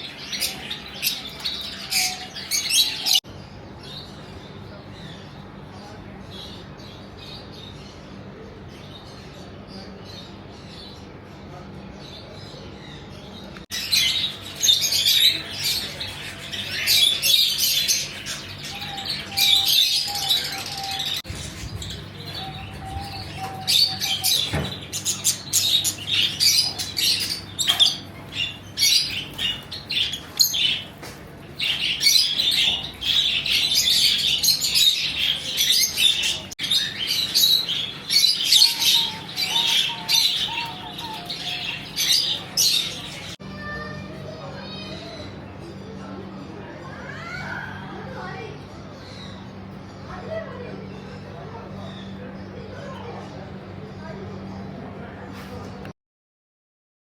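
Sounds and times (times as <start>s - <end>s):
caged birds chirping: 0.0s - 55.9s.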